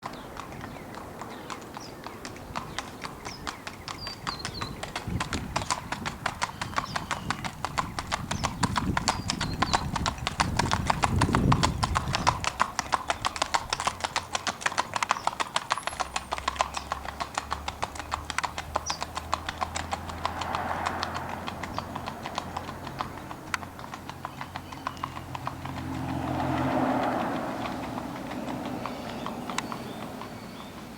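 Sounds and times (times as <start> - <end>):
horse hooves clip-clopping: 0.0 - 30.9.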